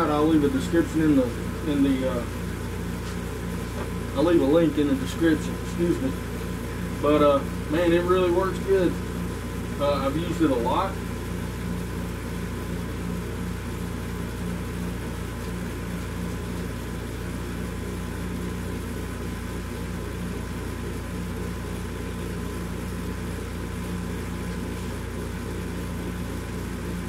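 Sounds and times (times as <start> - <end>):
workshop machinery humming: 0.0 - 27.0.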